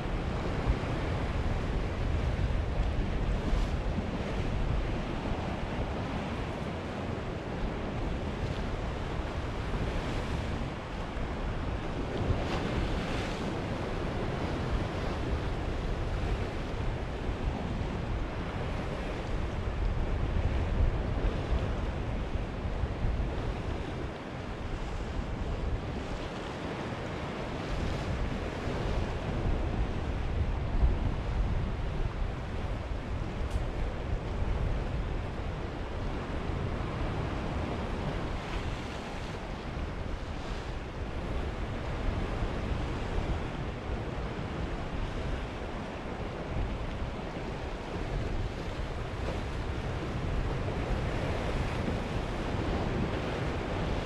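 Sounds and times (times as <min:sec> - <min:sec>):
waves washing onto rocky shore: 0:00.0 - 0:54.0
wind rumbling on microphone: 0:00.0 - 0:54.0.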